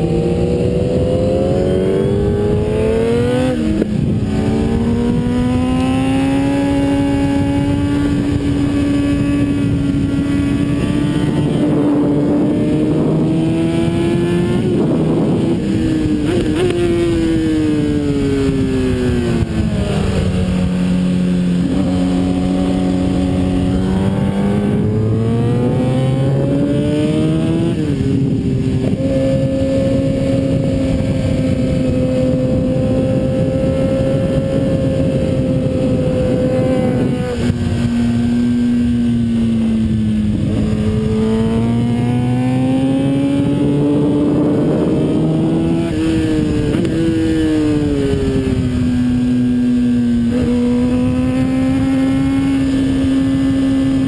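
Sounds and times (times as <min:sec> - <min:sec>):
motorcycle engine at speed: 0:00.0 - 0:54.0
wind rush over microphone: 0:00.0 - 0:54.0.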